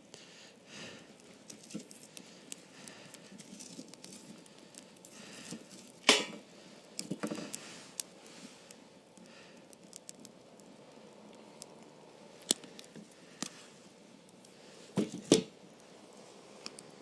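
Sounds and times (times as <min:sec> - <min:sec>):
campfire crackling and popping: 0:00.7 - 0:14.7.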